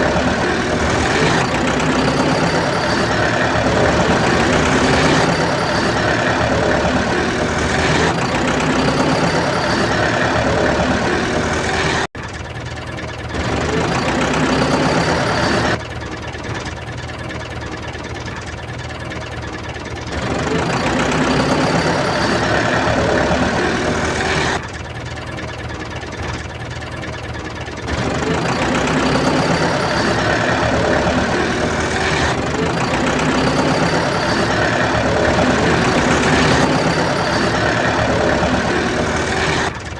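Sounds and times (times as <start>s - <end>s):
tractor engine knocking: 0.0s - 39.9s.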